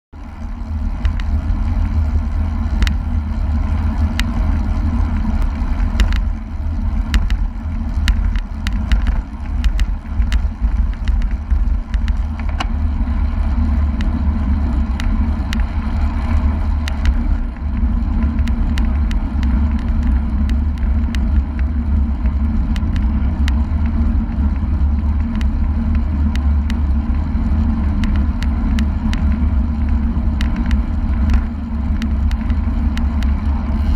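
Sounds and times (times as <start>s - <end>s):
sharp clicks and rattles: 0.2s - 33.9s
tyre hum on road: 0.2s - 33.9s.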